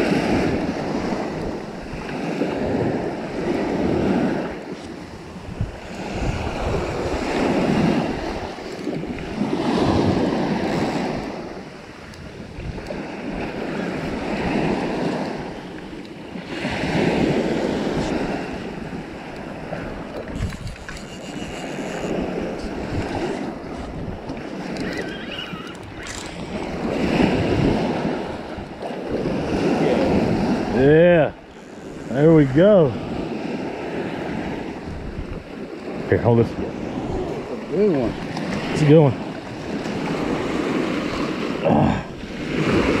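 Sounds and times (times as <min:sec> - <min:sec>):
surf washing up sandy beach: 0:00.0 - 0:43.0
wind buffeting microphone: 0:00.0 - 0:43.0.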